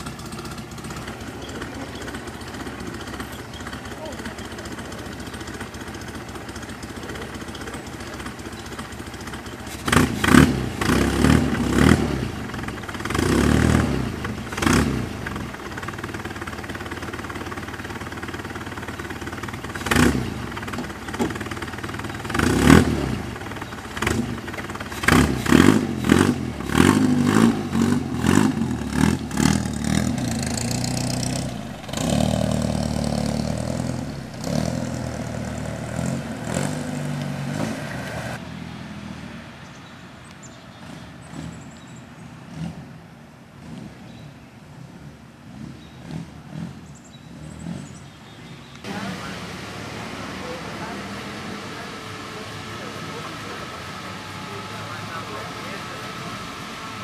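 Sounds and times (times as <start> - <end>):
car engine idling and revving: 0.0 - 57.0
car pulling away: 0.0 - 57.0.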